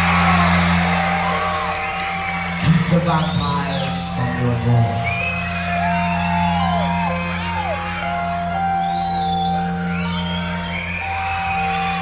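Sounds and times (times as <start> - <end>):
crowd whistling and whooping: 0.0 - 12.0.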